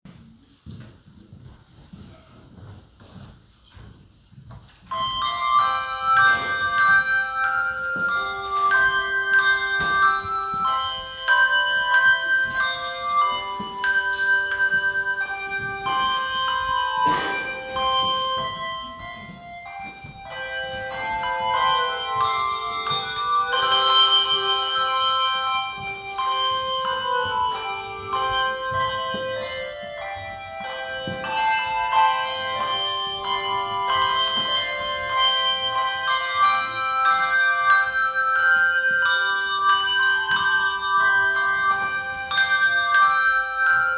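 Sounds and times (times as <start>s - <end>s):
handbell choir playing: 4.9s - 43.9s.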